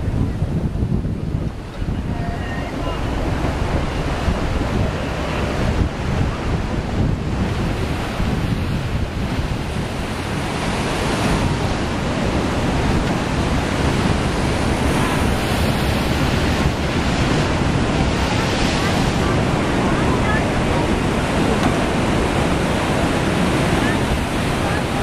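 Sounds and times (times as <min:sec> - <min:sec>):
surf breaking over rocks: 0:00.0 - 0:25.0
wind buffeting microphone: 0:00.0 - 0:25.0.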